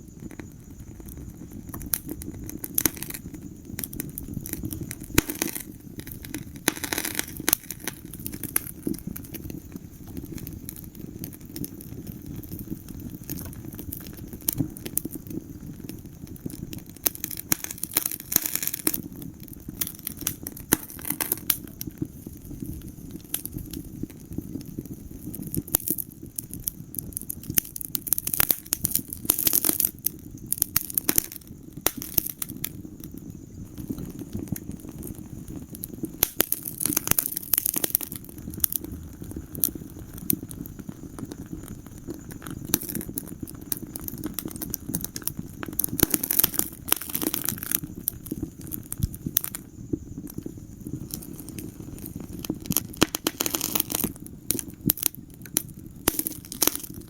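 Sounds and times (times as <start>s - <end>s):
low rumble of burning: 0.0s - 57.0s
wood fire crackling: 0.0s - 57.0s.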